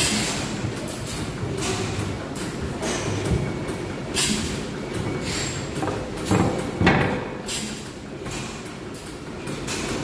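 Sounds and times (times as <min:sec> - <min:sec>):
steady mechanical clatter: 0:00.0 - 0:10.0.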